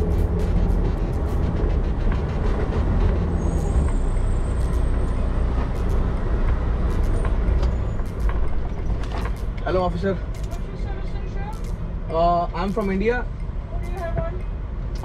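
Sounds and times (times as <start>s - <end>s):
truck diesel engine rumbling: 0.0s - 14.5s.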